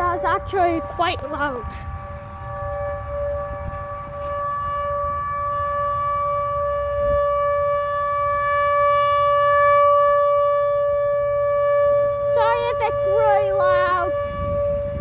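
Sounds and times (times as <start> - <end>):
electronic siren steady tone: 0.0 - 15.0.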